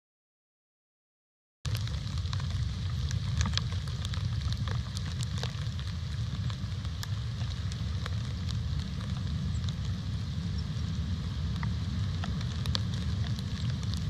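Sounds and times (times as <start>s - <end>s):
crackling clicks and ticks: 1.7s - 14.0s
low rumble: 1.7s - 14.0s.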